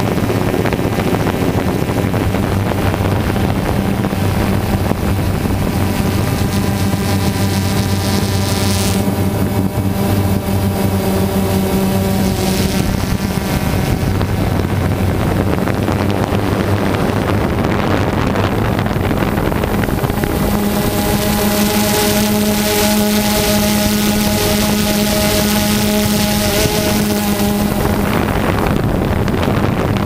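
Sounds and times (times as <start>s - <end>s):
drone motors humming: 0.0s - 30.0s
wind noise on microphone: 0.0s - 30.0s.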